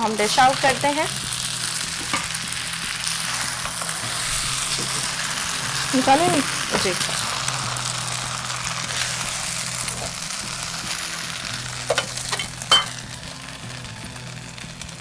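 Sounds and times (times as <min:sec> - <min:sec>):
noodles sizzling in a wok: 0:00.0 - 0:15.0.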